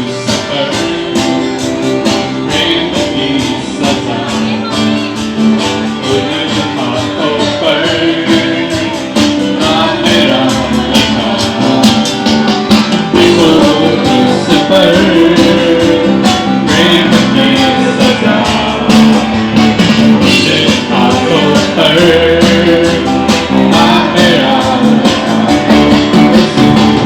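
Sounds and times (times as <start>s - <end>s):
steady drum beat: 0.0s - 27.0s
worship song with guitar: 0.0s - 27.0s.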